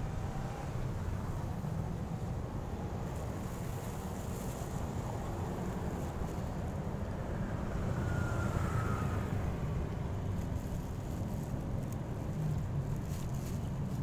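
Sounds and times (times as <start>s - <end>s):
distant traffic: 0.0s - 14.0s.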